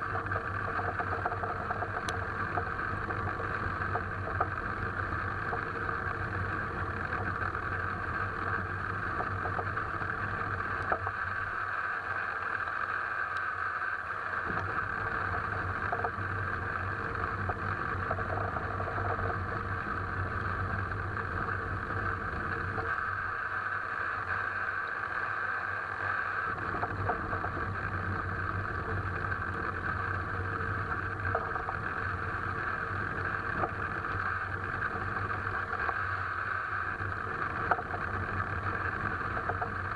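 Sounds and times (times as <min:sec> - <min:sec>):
car road noise with low hum: 0:00.0 - 0:39.9.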